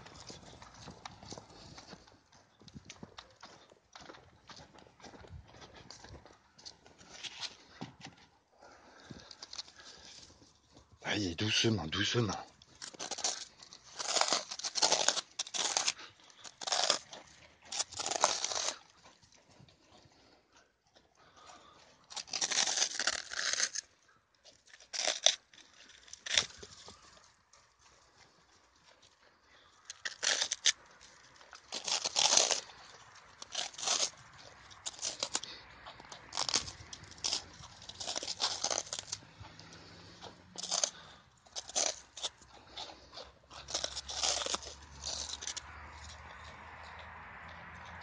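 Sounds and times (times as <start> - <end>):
sheep crunching and tearing bread: 0.0 - 48.0.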